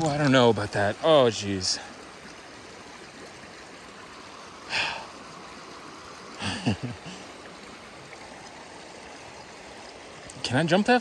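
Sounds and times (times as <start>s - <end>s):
creek running over stones: 0.0s - 11.0s.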